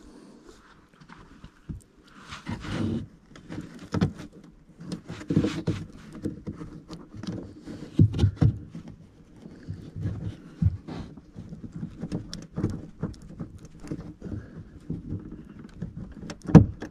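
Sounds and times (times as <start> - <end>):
hands working plastic car trim: 1.7 - 16.9.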